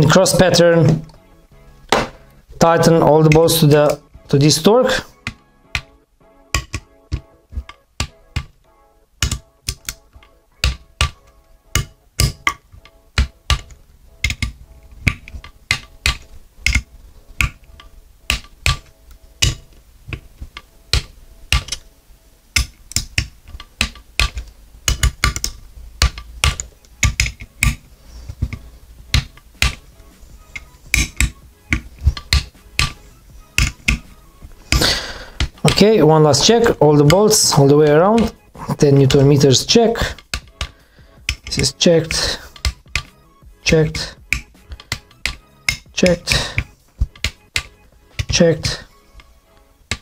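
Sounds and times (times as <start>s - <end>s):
faint background music: 0.0s - 50.0s.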